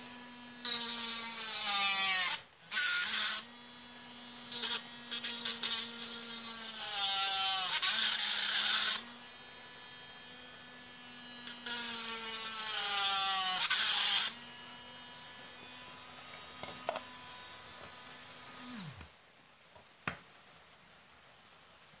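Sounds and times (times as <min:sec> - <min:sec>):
drill grinding circuit board: 0:00.0 - 0:19.0
mini drill whining: 0:00.0 - 0:19.1.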